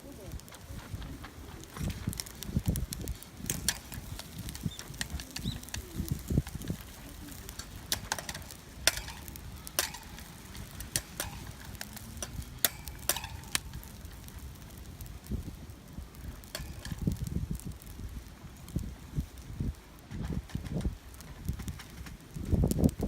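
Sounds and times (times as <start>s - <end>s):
wood fire crackling: 0.0s - 23.0s
sharp pops: 0.3s - 22.9s.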